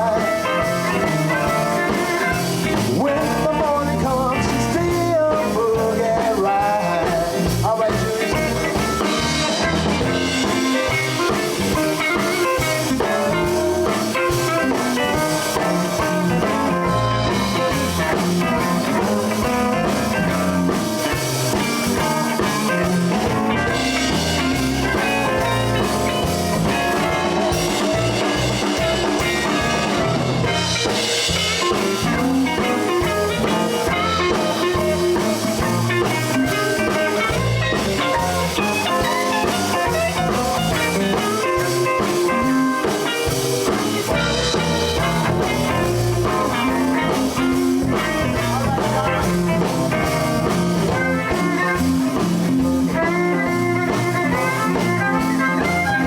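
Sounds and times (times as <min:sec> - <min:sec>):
bass: 0:00.0 - 0:56.0
drum kit beat: 0:00.0 - 0:56.0
electric guitar lines: 0:00.0 - 0:56.0.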